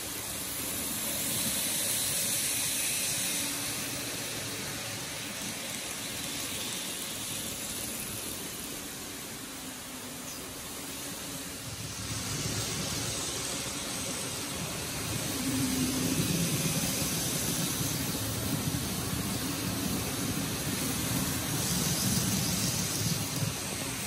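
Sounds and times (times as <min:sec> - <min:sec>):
model train motors whirring: 0:00.0 - 0:24.0
wheels on rails: 0:00.0 - 0:24.0.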